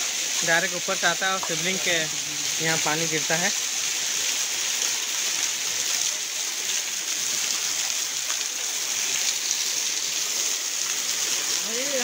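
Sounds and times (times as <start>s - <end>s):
small waterfall splashing on stones: 0.0s - 12.0s.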